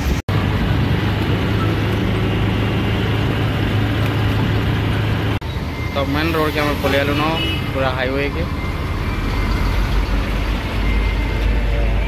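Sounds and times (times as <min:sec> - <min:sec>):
auto-rickshaw engine running: 0:00.0 - 0:12.0
road noise: 0:00.0 - 0:12.0.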